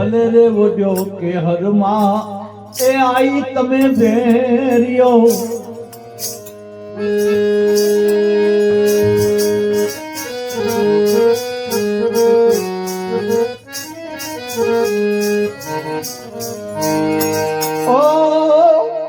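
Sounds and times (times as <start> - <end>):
harmonium melody: 0.0 - 19.0
small hand cymbals: 2.0 - 18.5.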